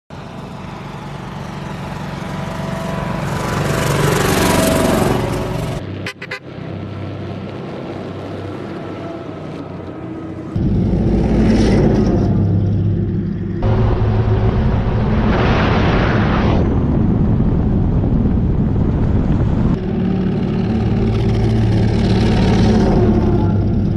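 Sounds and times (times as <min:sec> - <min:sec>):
vehicles running: 0:00.1 - 0:15.7, 0:16.3 - 0:23.9
deep engine rumble: 0:00.1 - 0:23.9
vehicle engine passing: 0:00.2 - 0:23.9.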